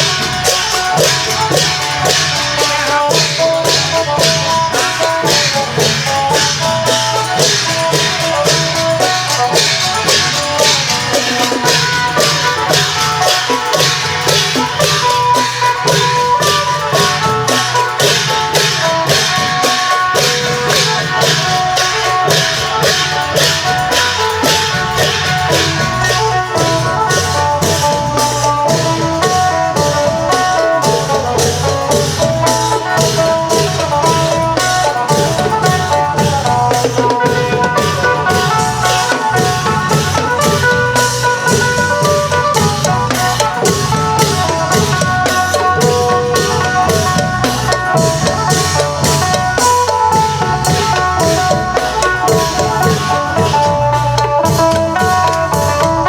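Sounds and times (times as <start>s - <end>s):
long drums beating: 0.0s - 56.0s.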